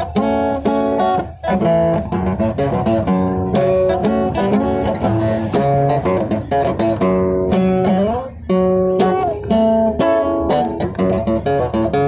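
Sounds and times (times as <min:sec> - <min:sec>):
acoustic guitar strumming: 0:00.0 - 0:12.0
melody of held notes: 0:00.0 - 0:12.0.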